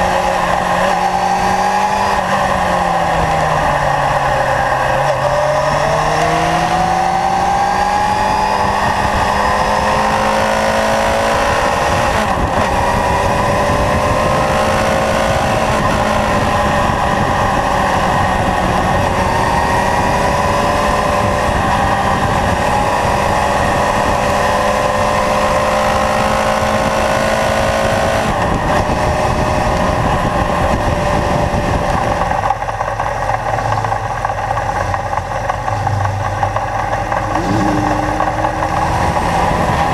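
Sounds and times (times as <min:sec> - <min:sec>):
wind rush: 0:00.0 - 0:32.5, 0:37.0 - 0:39.9
motorcycle engine: 0:00.0 - 0:39.9.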